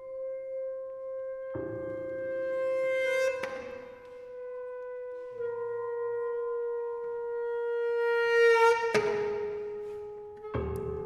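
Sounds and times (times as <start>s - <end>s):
sustained woodwind note: 0.0s - 11.0s.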